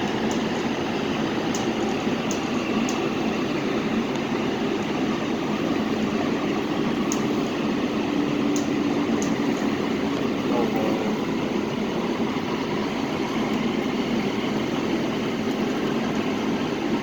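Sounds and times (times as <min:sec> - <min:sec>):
light rail car rumble and hum: 0:00.0 - 0:17.0.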